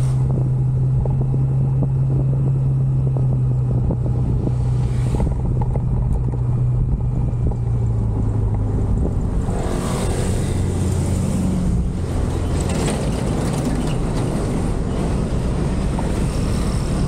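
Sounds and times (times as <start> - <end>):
road noise: 0.0 - 17.0
wind: 0.0 - 17.0.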